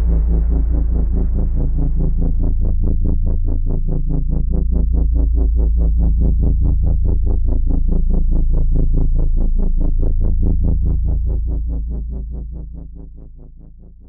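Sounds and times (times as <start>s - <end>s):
pulsing synthesizer: 0.0s - 13.8s
heavy bass drone: 0.0s - 14.0s.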